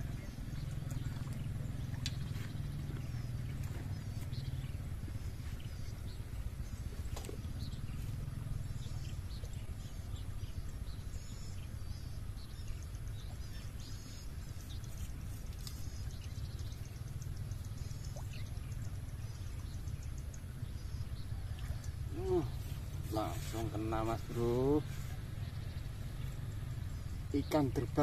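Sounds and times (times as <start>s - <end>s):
birds chirping: 0.0s - 28.0s
steady low rumble: 0.0s - 28.0s.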